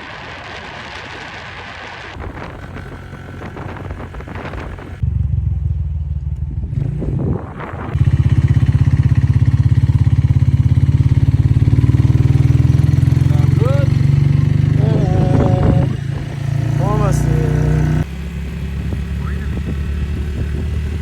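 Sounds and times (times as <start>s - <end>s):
motorcycle engine running: 2.1s - 21.0s.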